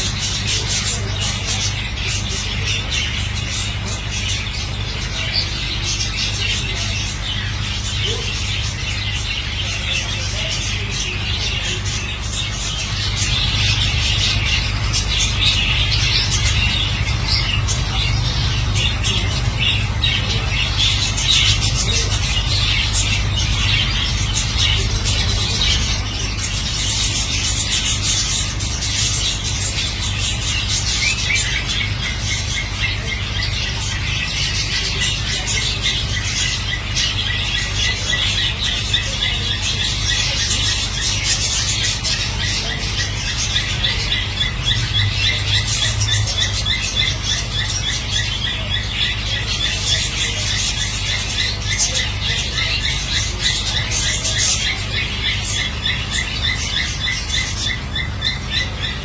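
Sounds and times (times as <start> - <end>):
birds chattering and squawking: 0.0 - 59.0
steady low hum: 0.0 - 59.0.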